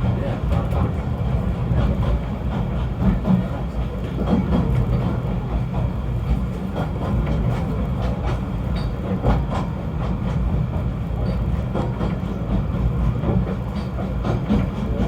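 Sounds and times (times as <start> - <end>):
train clicks and knocks: 0.0 - 15.0
train running low rumble: 0.0 - 15.0.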